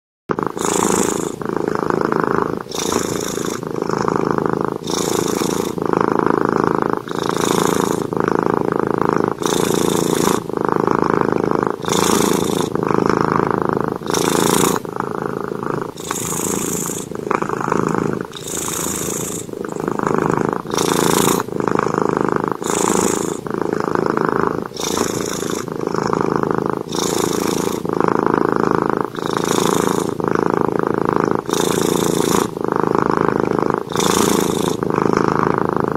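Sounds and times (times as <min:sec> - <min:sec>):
cat purring loudly: 0:00.3 - 0:35.9.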